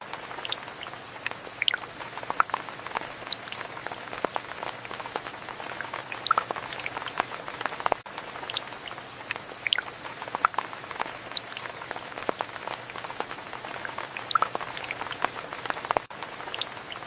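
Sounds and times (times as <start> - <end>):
rain falling: 0.0 - 17.0
raindrops pattering: 0.0 - 17.0.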